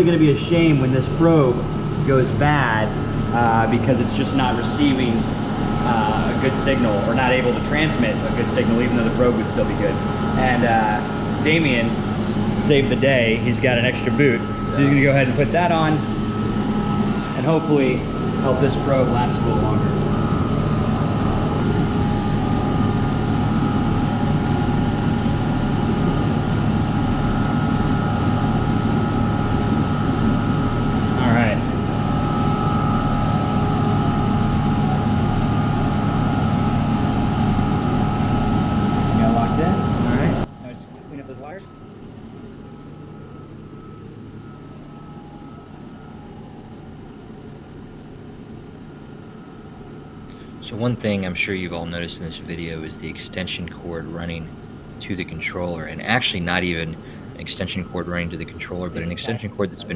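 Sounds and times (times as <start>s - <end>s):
constant whining tones: 0.0s - 48.0s, 49.3s - 59.9s
machinery drone with low hum: 0.0s - 59.9s.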